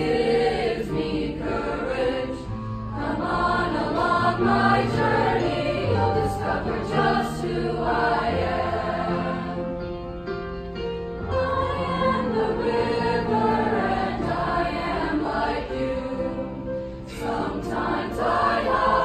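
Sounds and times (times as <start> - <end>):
children's choir singing: 0.0 - 9.8, 11.3 - 19.0.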